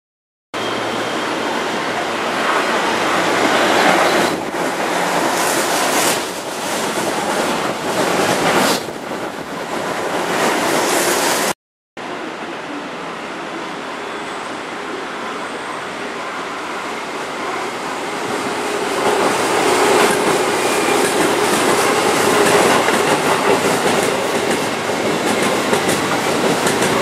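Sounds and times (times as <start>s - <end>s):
electric train running on rails: 0.6s - 27.0s.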